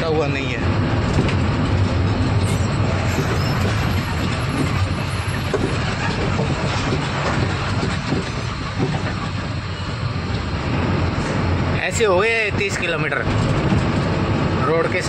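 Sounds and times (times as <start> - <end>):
truck cab rattling: 0.0 - 10.6, 11.8 - 15.0
diesel engine running: 0.0 - 15.0.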